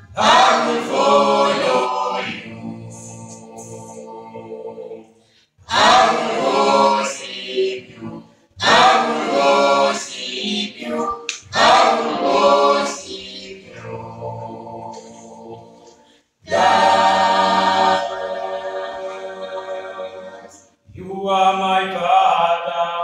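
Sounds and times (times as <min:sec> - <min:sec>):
vocal quartet singing a cappella: 0:00.0 - 0:23.0.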